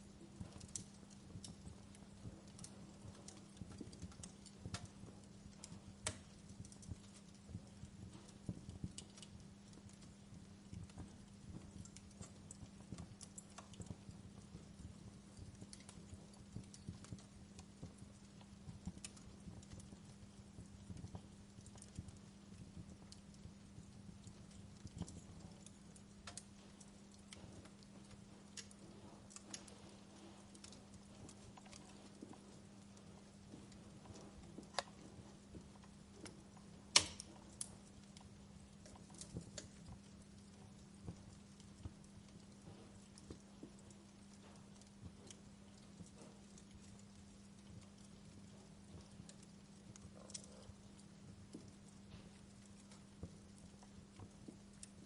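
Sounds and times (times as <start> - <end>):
faint steady hum: 0.0 - 55.0
wood fire crackling: 0.0 - 55.0.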